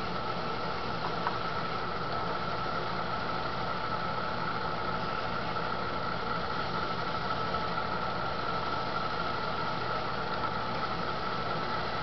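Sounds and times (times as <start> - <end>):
potter's wheel motor humming: 0.0 - 12.0.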